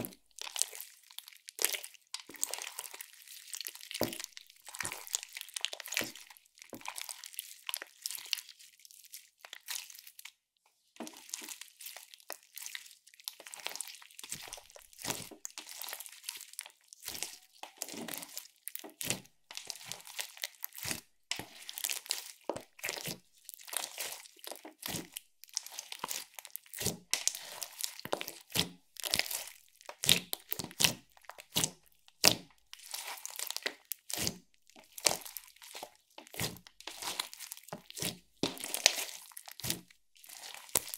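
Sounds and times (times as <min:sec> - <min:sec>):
slime crackling and popping: 0:00.0 - 0:10.3, 0:11.1 - 0:40.9.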